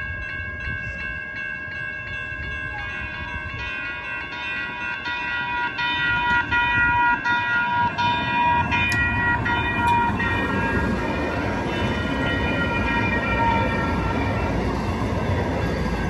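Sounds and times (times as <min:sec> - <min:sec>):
light rail train rumbling past: 0:00.0 - 0:16.0.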